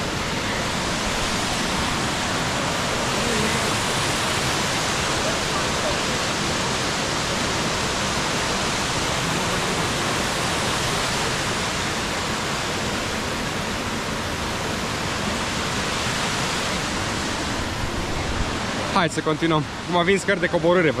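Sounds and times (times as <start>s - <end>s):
stream rushing down waterfall: 0.0s - 21.0s.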